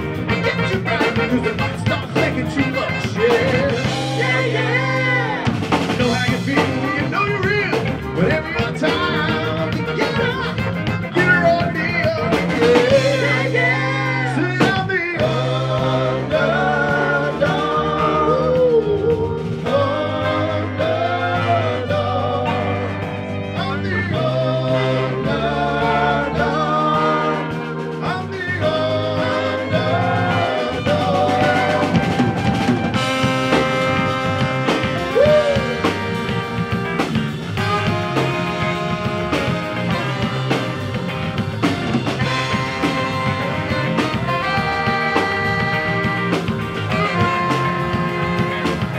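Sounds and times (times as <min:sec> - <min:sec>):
rock band with horns playing: 0:00.0 - 0:48.9
trombone: 0:00.0 - 0:48.9.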